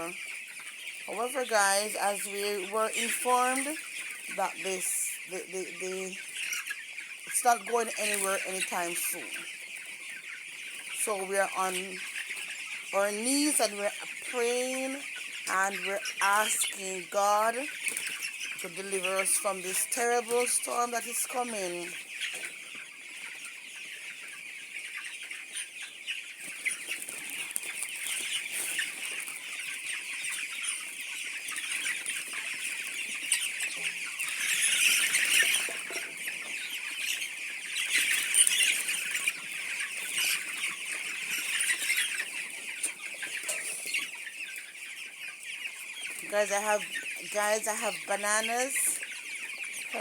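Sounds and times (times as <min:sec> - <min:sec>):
chicks peeping and cheeping: 0:00.0 - 0:50.0.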